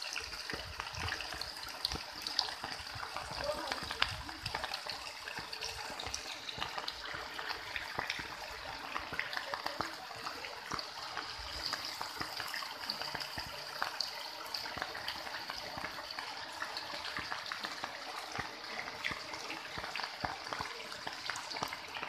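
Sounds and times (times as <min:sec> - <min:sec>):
rain falling on standing water: 0:00.0 - 0:22.0.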